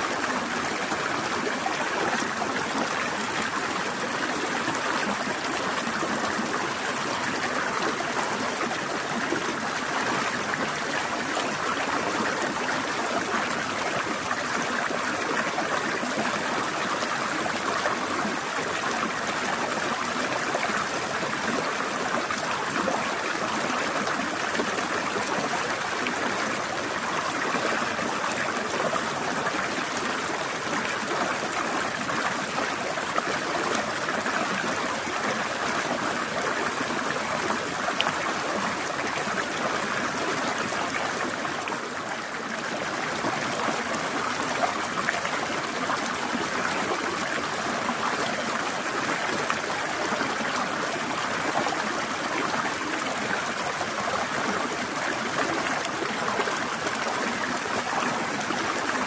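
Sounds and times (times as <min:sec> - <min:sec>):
stream trickling over rocks: 0:00.0 - 0:59.0.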